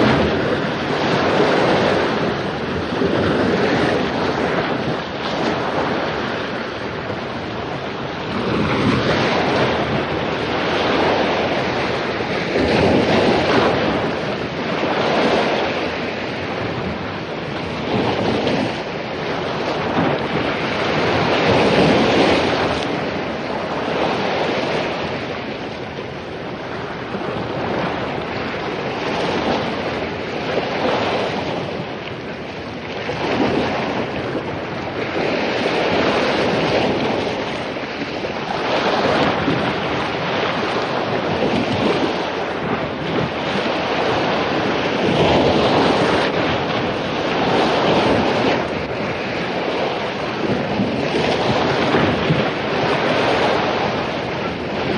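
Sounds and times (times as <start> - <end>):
waves breaking on a beach: 0.0 - 54.9
wind on microphone: 0.0 - 54.9.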